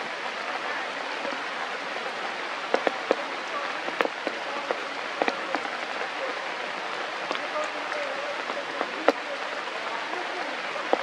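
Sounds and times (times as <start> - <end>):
rain hissing: 0.0 - 11.0
raindrop hits: 0.0 - 11.0.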